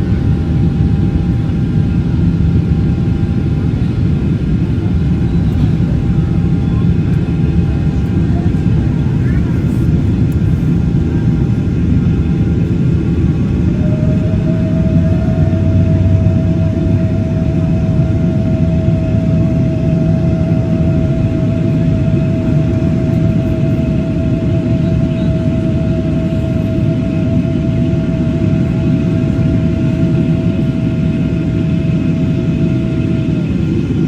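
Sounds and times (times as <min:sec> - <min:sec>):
jet engine whine: 0:00.0 - 0:34.0
jet engines rumbling: 0:00.0 - 0:34.0.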